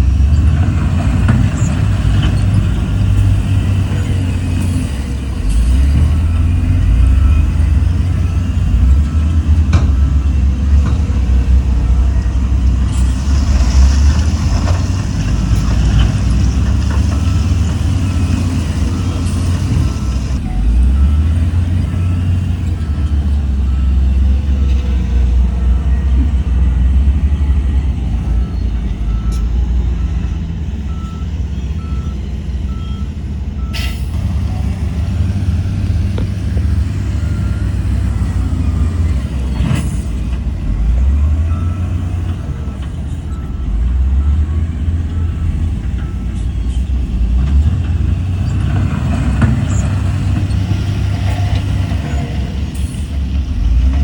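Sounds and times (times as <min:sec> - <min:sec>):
heavy diesel machinery engine: 0:00.0 - 0:54.0
reversing alarm beeping: 0:01.6 - 0:15.0, 0:15.6 - 0:53.3.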